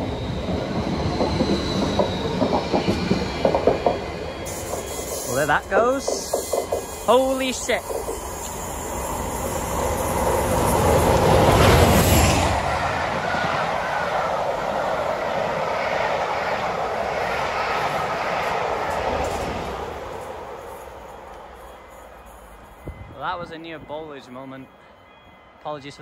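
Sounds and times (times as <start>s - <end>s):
train wheels rumbling on rails: 0.0s - 24.2s
diesel locomotive engine passing: 0.0s - 26.0s.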